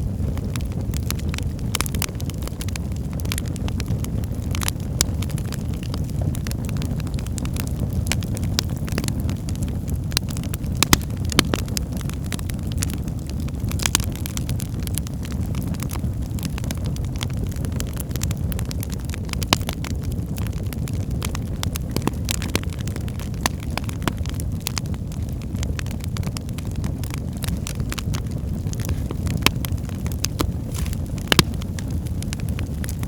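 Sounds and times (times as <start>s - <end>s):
low rumble of flames: 0.0s - 33.0s
wood fire pops and snaps: 0.0s - 33.0s.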